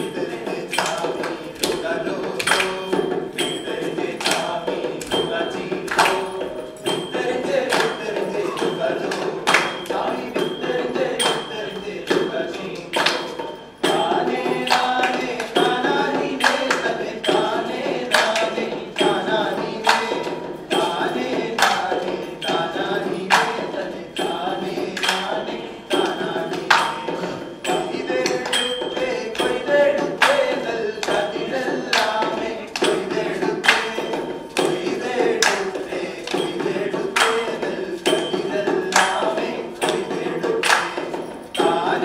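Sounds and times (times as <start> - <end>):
group singing: 0.0 - 42.0
hand drum beat: 0.0 - 42.0.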